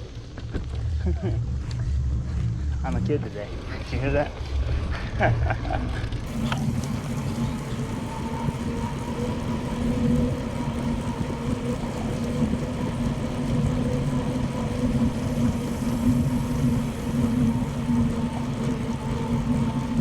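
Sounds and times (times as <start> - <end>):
bicycle tyre hum on road: 0.0 - 20.0.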